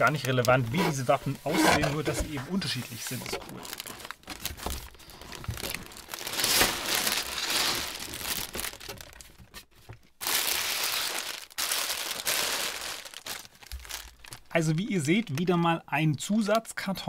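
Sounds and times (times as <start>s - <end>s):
plastic bags crinkling: 0.0s - 15.6s.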